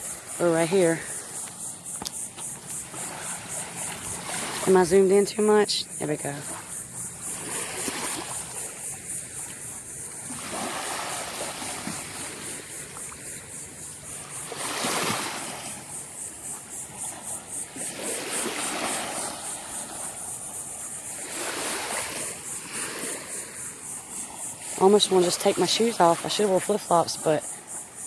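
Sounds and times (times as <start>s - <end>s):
small surf waves breaking: 0.0s - 28.0s.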